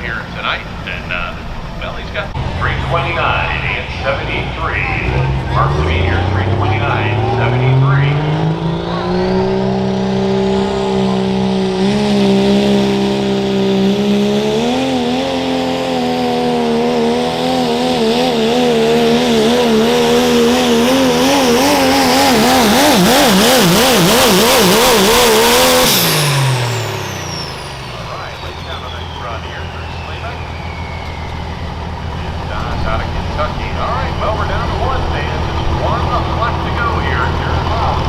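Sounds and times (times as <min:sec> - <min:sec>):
diesel truck engine at full throttle: 0:00.0 - 0:38.0.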